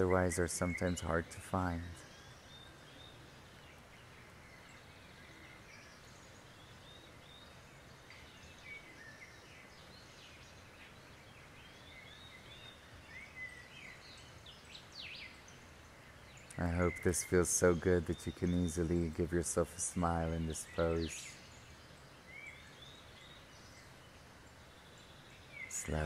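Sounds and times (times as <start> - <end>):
faint background hiss: 0.0 - 26.0.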